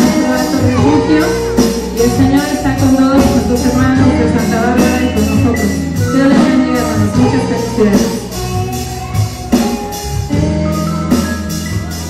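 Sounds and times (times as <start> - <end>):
bass guitar: 0.0 - 12.0
electric guitars: 0.0 - 12.0
steady percussion beat: 0.0 - 12.0.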